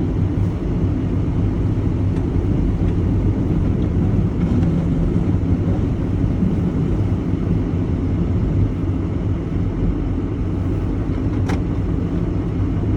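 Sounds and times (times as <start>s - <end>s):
vehicle engine rumbling: 0.0s - 12.9s.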